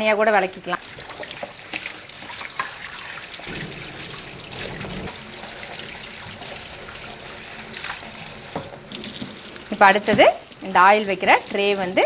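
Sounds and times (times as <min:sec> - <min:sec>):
tap water splashing into sink: 0:00.8 - 0:10.8.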